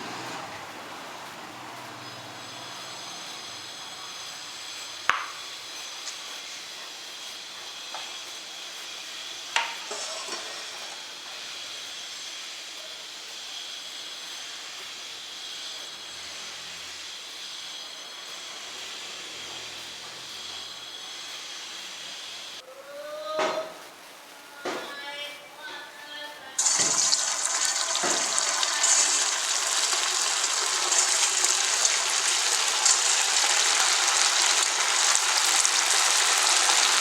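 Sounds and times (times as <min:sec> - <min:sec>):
food sizzling in hot oil: 0:00.0 - 0:22.6, 0:26.6 - 0:37.0.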